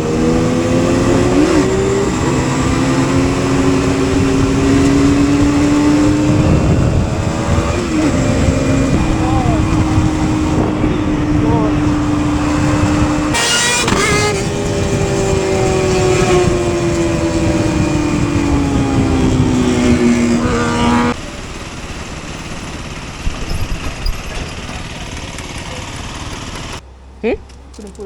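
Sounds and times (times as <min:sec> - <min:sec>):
motorcycle engine running hard: 0:00.0 - 0:27.4
wind and road noise: 0:00.0 - 0:28.0.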